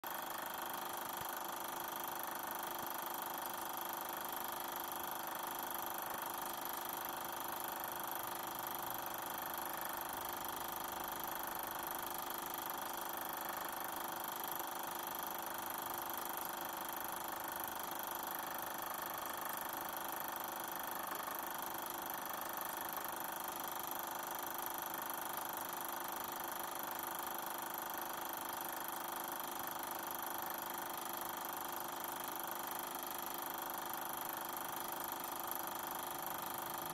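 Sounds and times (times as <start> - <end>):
film projector whirring: 0.0 - 36.9.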